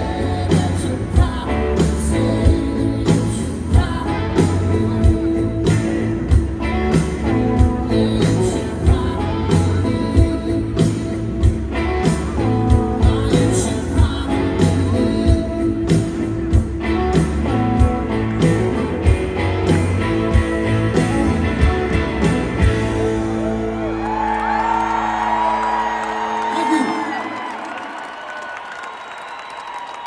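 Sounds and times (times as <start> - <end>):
live band playing slow song: 0.0 - 27.7
electric guitar: 0.0 - 28.0.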